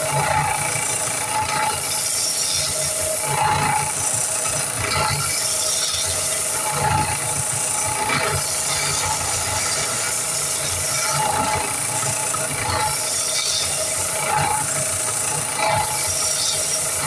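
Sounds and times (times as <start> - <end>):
power sander grinding wood: 0.0 - 17.0.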